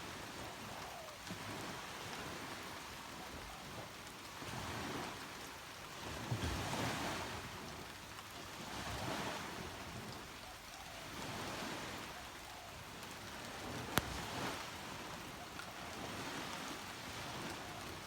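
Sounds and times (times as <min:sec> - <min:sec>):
waves washing onto beach: 0:00.0 - 0:18.0
rain falling: 0:01.2 - 0:18.0.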